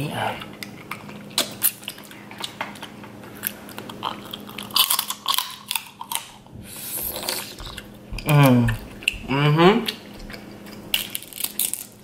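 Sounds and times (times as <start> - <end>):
chewing crab meat: 0.2 - 12.0.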